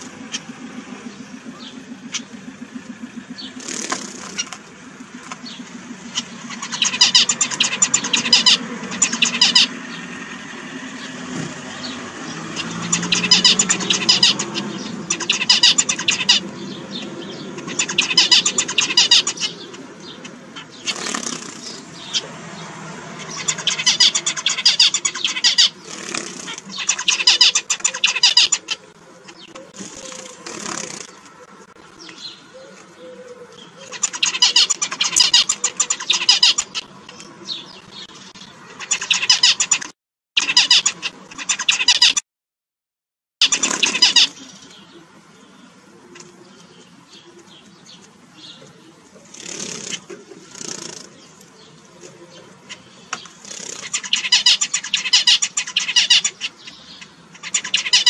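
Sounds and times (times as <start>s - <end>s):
finches chattering: 0.0s - 42.2s, 43.4s - 58.0s.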